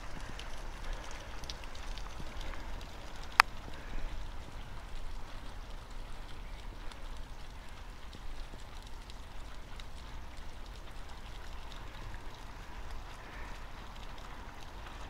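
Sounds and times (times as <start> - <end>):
water drips and splashes: 0.0 - 15.0
water rushing in metal downspout: 0.0 - 15.0.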